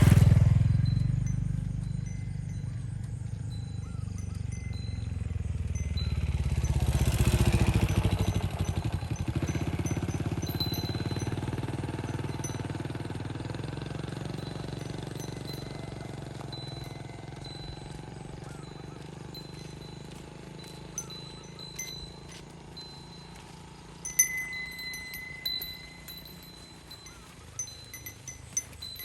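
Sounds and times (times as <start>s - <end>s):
motorcycle passing by: 0.0s - 29.0s.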